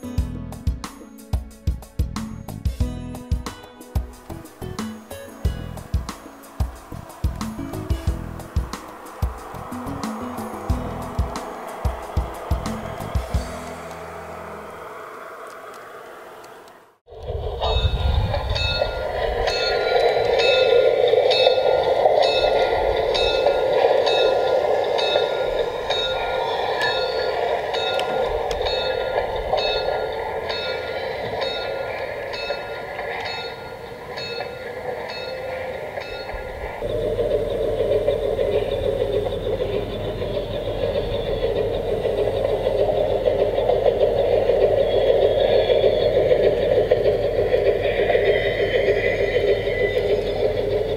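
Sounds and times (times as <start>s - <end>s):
regular track clicking: 0.0s - 50.9s
low hum: 4.2s - 50.9s.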